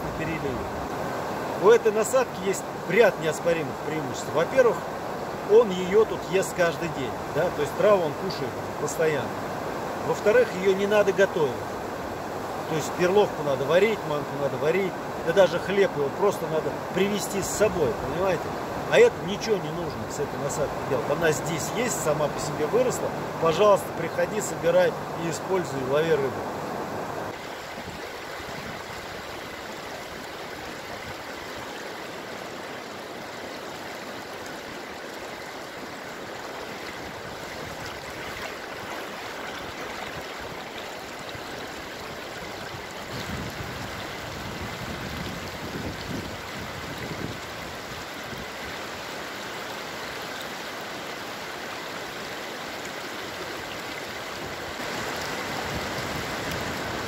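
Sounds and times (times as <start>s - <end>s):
water rushing over weir: 0.0s - 57.0s.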